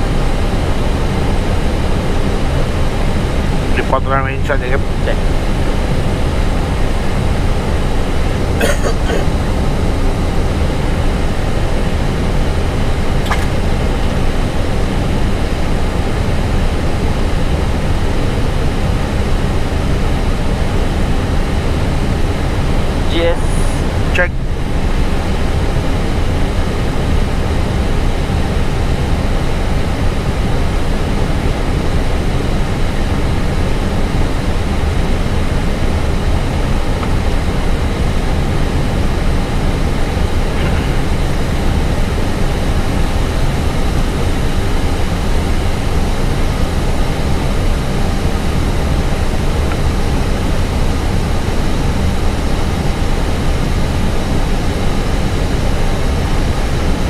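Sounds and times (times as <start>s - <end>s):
airflow and engines roaring: 0.0s - 57.0s.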